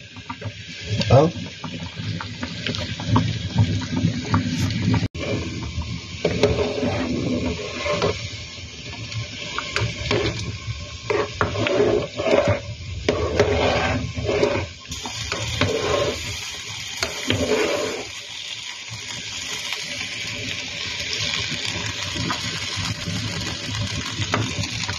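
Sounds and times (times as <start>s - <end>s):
coconut milk bubbling in pan: 0.0s - 24.9s.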